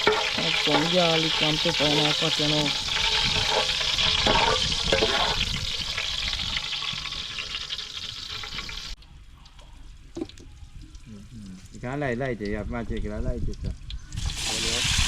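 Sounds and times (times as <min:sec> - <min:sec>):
pot of food bubbling and sizzling: 0:00.0 - 0:15.0.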